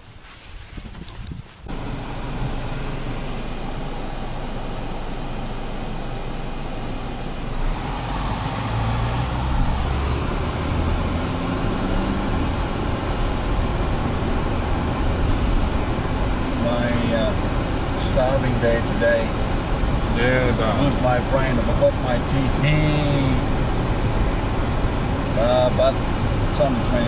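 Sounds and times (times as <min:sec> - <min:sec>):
air-conditioning fan: 0:01.2 - 0:27.0
car engine running: 0:01.7 - 0:27.0.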